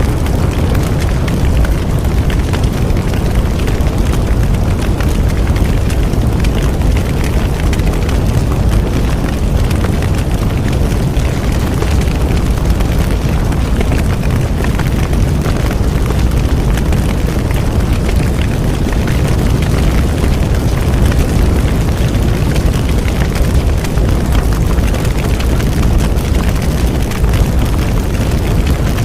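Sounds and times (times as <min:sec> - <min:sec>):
bonfire flames rumbling: 0:00.0 - 0:29.0
burning wood crackling and popping: 0:00.0 - 0:29.0.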